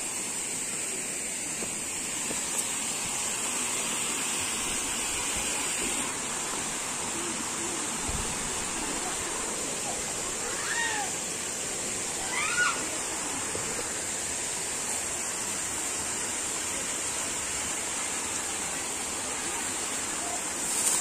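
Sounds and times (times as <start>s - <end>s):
high-pitched hiss: 0.0s - 21.0s
stream water rushing: 0.0s - 21.0s.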